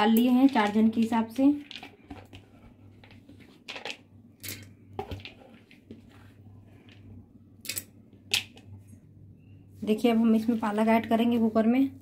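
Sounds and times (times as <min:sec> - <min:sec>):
faint low hum: 0:01.8 - 0:12.0.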